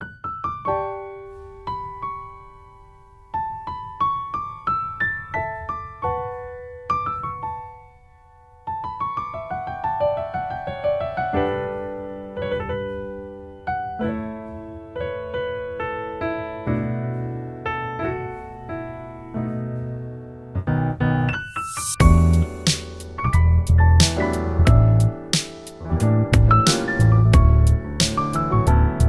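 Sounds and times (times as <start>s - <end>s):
gentle piano melody: 0.0s - 29.0s.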